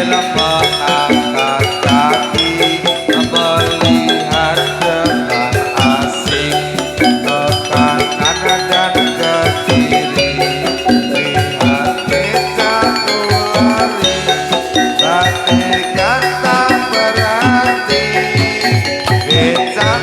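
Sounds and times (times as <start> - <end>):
metal mallet instruments melody: 0.0 - 20.0
steady drum beats: 0.0 - 20.0.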